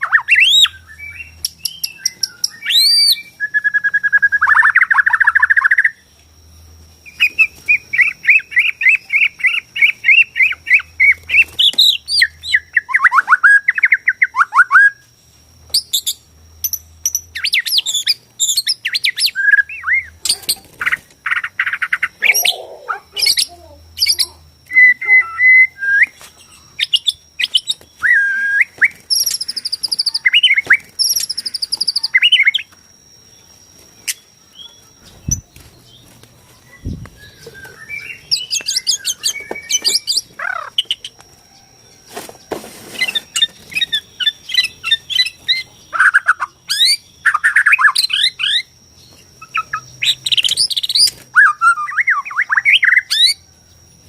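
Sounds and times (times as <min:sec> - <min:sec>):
bird singing whistled notes: 0:00.0 - 0:06.1, 0:07.0 - 0:15.1, 0:15.7 - 0:42.0, 0:42.9 - 0:54.0
thin steady high tone: 0:00.0 - 0:54.0.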